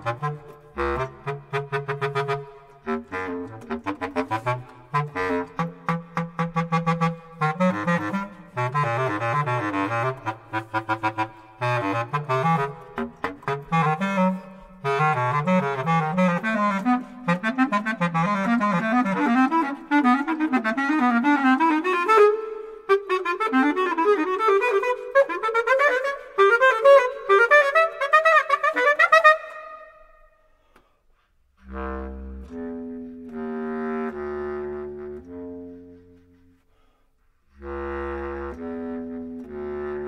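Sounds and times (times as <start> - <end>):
bass clarinet playing quick runs: 0.0 - 30.2, 31.6 - 36.6, 37.5 - 40.0.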